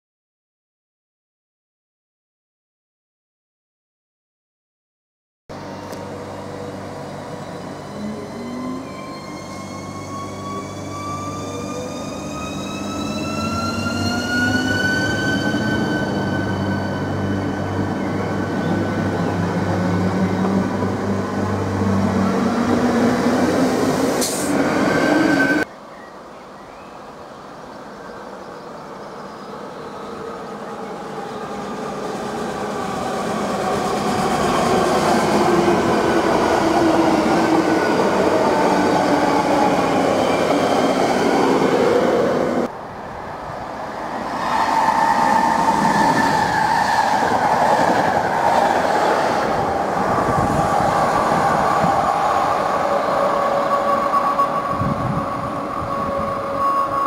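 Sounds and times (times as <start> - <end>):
electric train passing: 5.5 - 25.7, 28.5 - 57.0.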